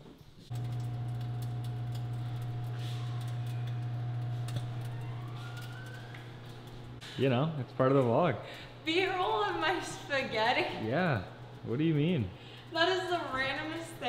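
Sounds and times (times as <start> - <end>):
steady electrical hum: 0.4 - 14.0.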